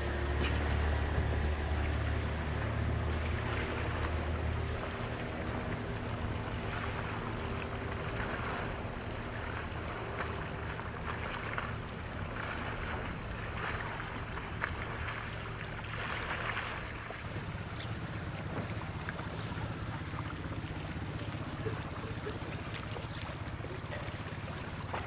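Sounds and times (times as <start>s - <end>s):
small waves washing against rocks: 0.0s - 22.4s
boat engine drone: 0.0s - 25.0s.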